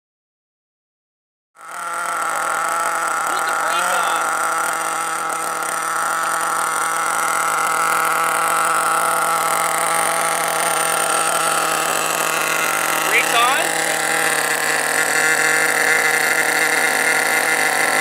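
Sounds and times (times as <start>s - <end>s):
small engine idling: 1.6s - 18.0s.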